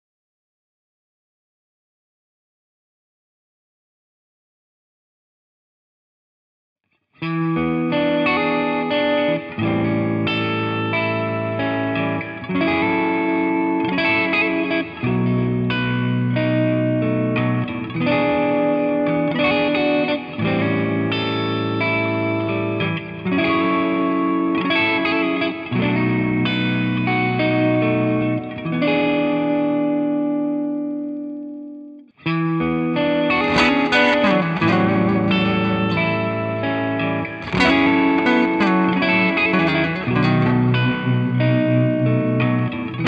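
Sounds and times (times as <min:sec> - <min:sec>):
electric guitar chords and notes: 0:07.2 - 0:43.0.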